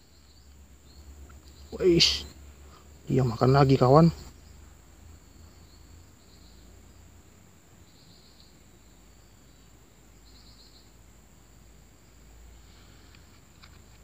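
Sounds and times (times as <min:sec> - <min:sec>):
insect pulsed trill: 0:00.0 - 0:12.8
insects whining: 0:00.0 - 0:14.0.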